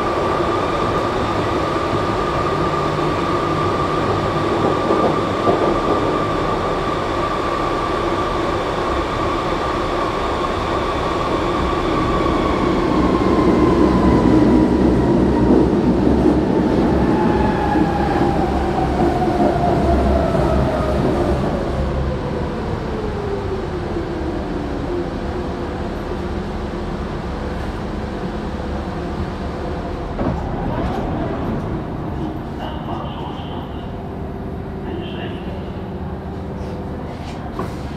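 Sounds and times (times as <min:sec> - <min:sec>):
train wheels rumbling on rails: 0:00.0 - 0:35.2
train drive whine: 0:00.0 - 0:37.9.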